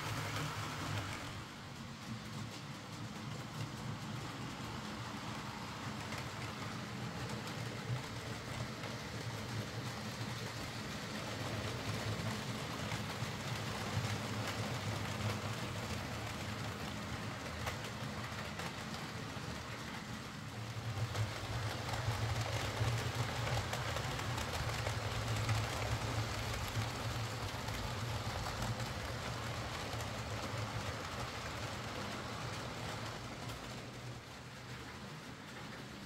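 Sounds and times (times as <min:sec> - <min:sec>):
model train wheels rumbling: 0:00.0 - 0:36.0.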